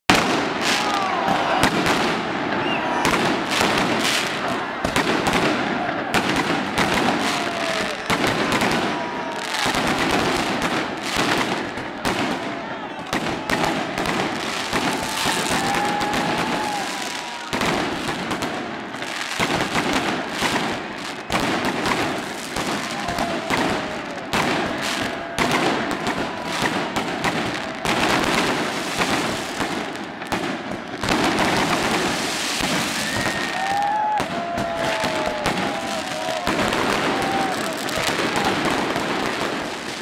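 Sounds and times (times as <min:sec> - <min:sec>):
fireworks bangs and crackling: 0:00.1 - 0:40.0.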